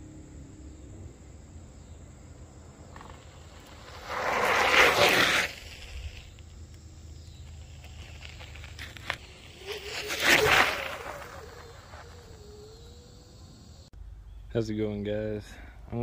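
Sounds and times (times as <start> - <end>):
electric scooter passing: 0.0 - 13.9.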